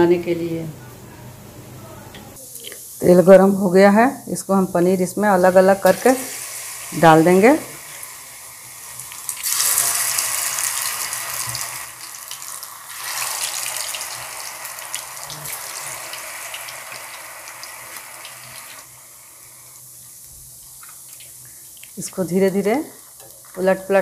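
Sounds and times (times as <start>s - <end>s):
food deep-frying in hot oil: 2.4s - 24.0s.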